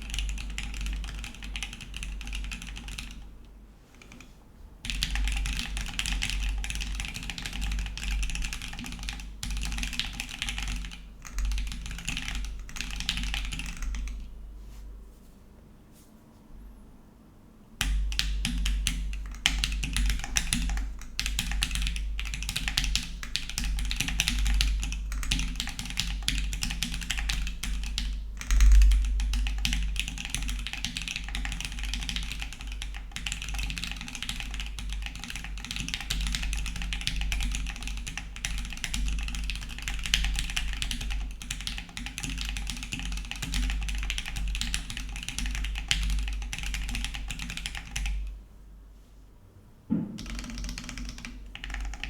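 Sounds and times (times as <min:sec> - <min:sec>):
mechanical keyboard typing: 0:00.0 - 0:03.3, 0:04.0 - 0:14.3, 0:17.8 - 0:48.3, 0:50.2 - 0:52.0.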